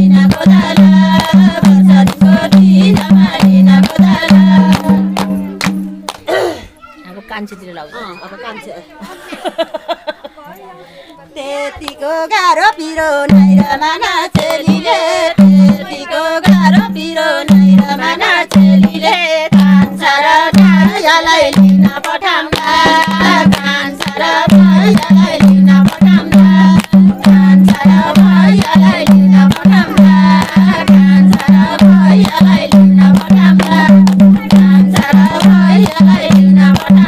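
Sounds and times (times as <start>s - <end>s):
women singing folk song: 0.0s - 5.2s, 11.3s - 37.0s
hand drum beating: 0.0s - 6.1s, 13.3s - 37.0s.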